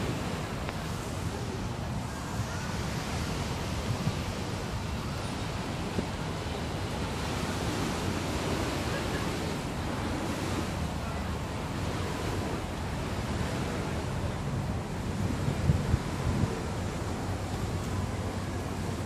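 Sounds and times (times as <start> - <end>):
sea surf: 0.0 - 19.0
wind rumbling on microphone: 0.0 - 19.0.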